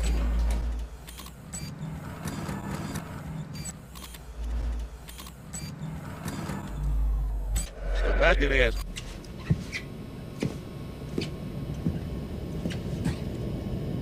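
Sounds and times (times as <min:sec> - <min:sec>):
elevator humming and rumbling: 0:00.0 - 0:14.0.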